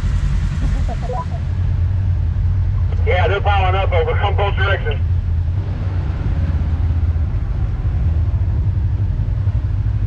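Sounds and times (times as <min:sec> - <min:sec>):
engine running with low rumble: 0:00.0 - 0:10.0.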